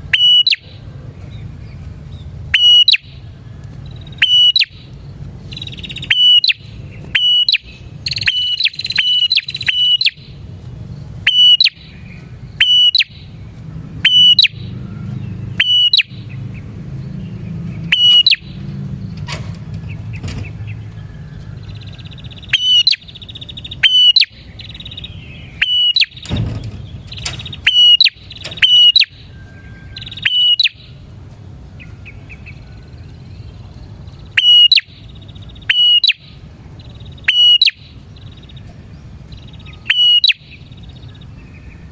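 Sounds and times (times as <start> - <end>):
birds chattering trills: 0.0 - 41.9
birds chirping sharply: 0.0 - 41.9.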